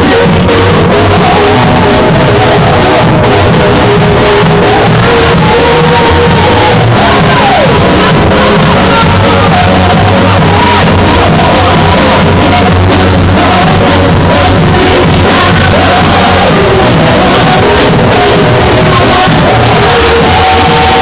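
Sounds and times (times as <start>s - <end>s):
choir singing praise song: 0.0s - 21.0s
steady drum beat: 0.0s - 21.0s.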